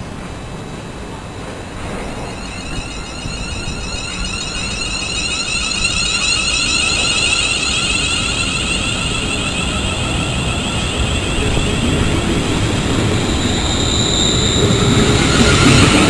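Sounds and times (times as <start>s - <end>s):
electric train whine: 0.0s - 16.0s
train low rumble: 0.0s - 16.0s.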